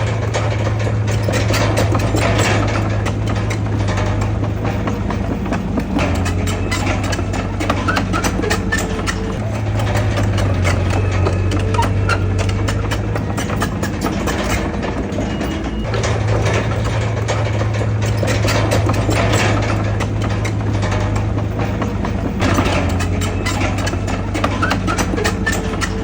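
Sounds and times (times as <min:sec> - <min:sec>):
heavy diesel engine under load: 0:00.0 - 0:26.0
rapid metallic clanks: 0:00.0 - 0:26.0.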